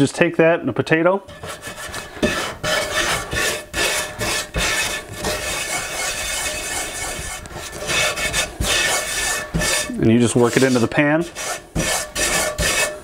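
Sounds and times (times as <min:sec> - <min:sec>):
potato scrubbing salt in skillet: 0:01.3 - 0:13.0.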